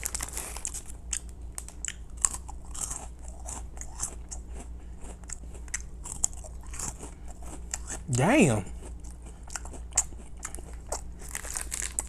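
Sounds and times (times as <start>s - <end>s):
crunching and chewing snack: 0.0s - 12.0s.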